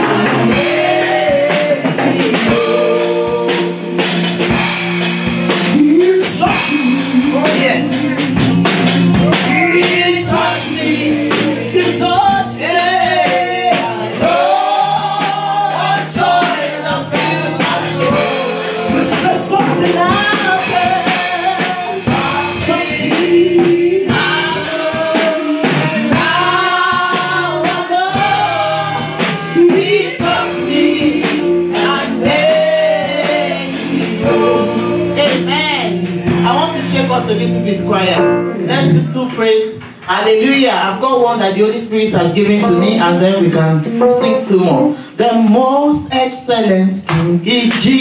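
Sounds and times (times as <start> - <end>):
people singing into microphones: 0.0 - 37.4, 42.5 - 48.0
drum kit beat: 0.0 - 45.2
band playing: 0.0 - 45.7.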